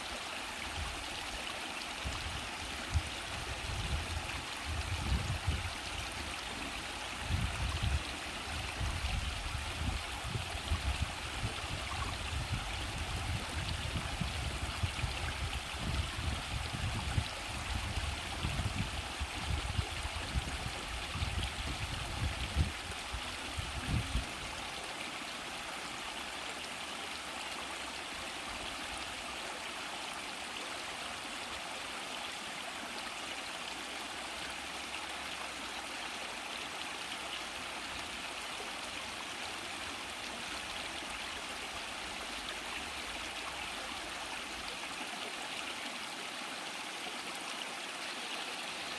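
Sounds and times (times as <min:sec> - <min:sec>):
stream rushing over rocks: 0:00.0 - 0:48.9.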